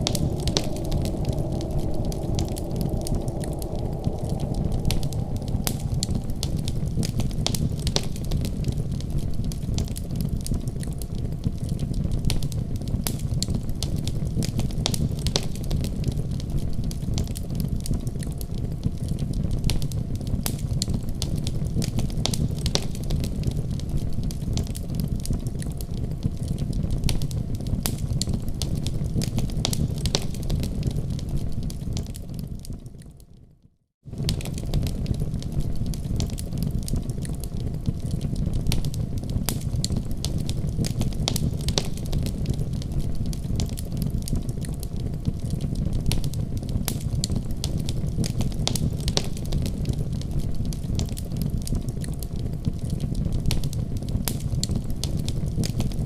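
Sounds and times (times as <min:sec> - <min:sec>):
wood fire crackling: 0:00.0 - 0:33.1, 0:34.1 - 0:56.0.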